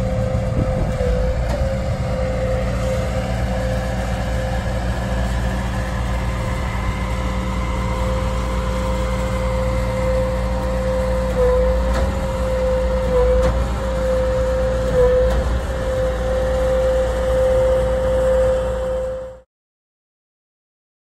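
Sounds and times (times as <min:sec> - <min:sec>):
freight train rumble: 0:00.0 - 0:19.4
high whine: 0:00.0 - 0:19.5.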